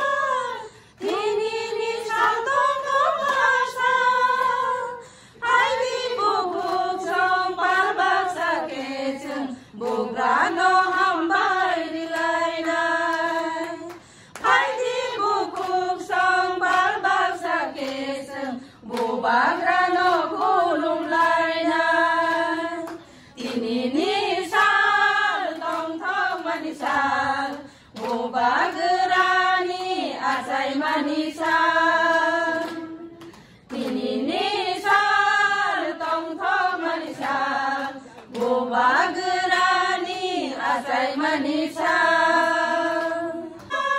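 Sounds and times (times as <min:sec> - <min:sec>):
women singing in unison: 0:00.0 - 0:43.9.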